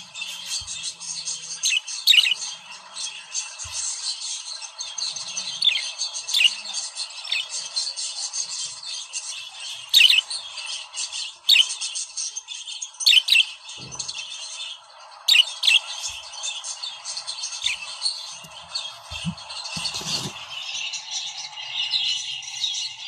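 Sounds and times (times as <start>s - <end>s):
budgerigars chattering: 0.0s - 23.0s.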